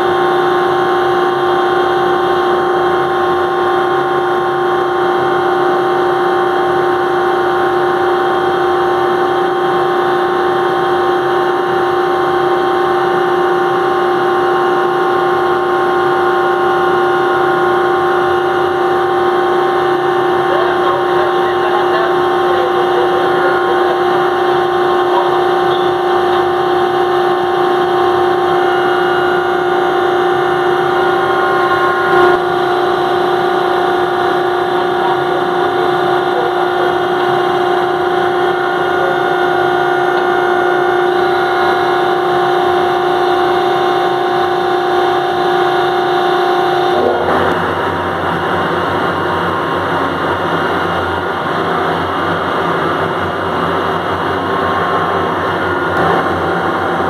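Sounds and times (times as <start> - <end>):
crane motor running: 0.0 - 57.0.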